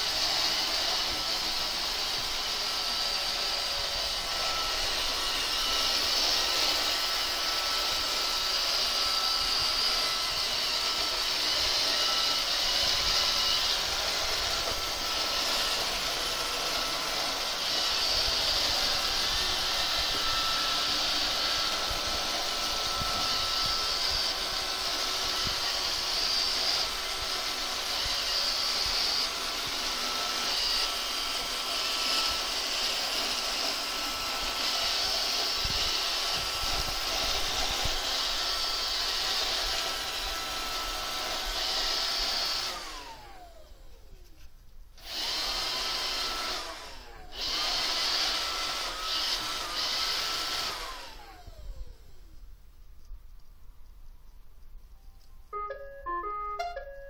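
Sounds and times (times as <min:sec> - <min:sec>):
robot vacuum motor whirring: 0:00.0 - 0:53.5.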